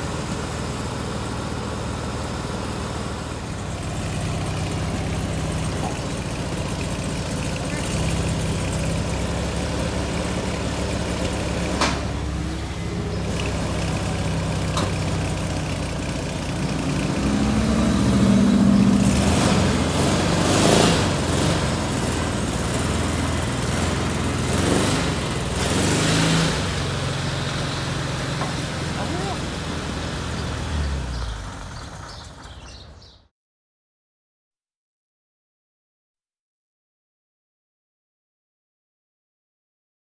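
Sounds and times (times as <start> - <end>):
air-cooled car engine idling: 0.0 - 33.1.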